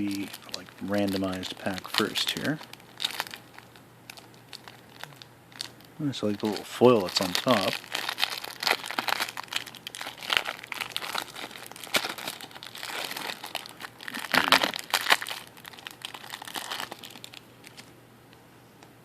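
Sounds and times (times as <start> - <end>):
foil wrapper crinkling: 0.0 - 17.9.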